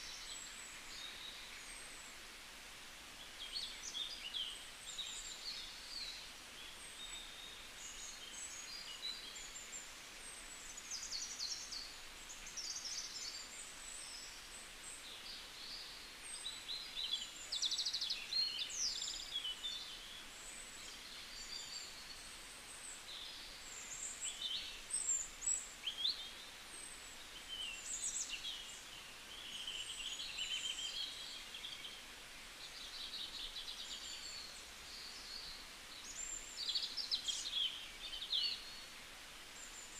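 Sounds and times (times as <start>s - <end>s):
small birds chirping: 0.0s - 2.2s, 3.2s - 39.9s
steady background hiss: 0.0s - 39.9s.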